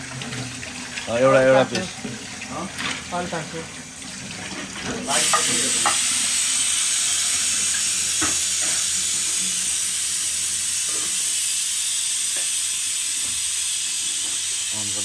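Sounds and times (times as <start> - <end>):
tap water running into a pot: 0.0 - 15.0.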